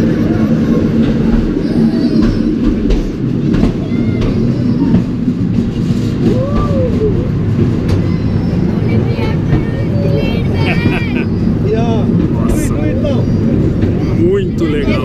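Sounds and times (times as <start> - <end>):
rail car rumbling on track: 0.0 - 15.0.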